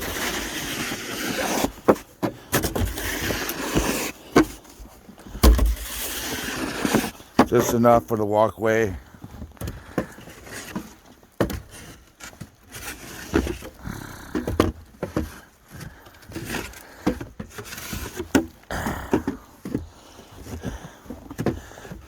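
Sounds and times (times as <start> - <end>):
snow shovel scraping walkway: 0.0 - 22.0.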